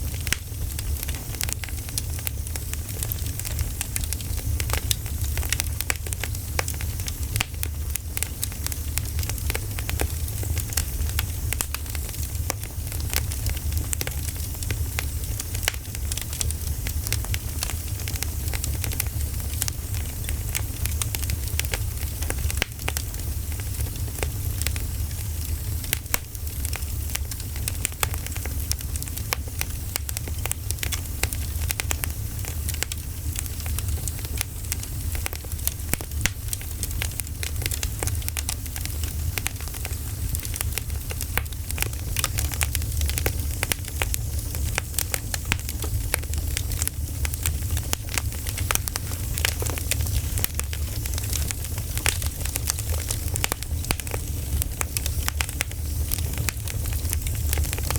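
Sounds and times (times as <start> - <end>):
campfire rumbling: 0.0 - 57.9
wood crackling and popping: 0.0 - 57.9.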